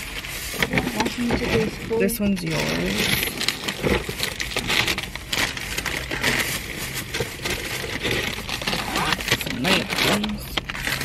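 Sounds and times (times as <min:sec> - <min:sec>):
paper wrappers crinkling: 0:00.0 - 0:11.0.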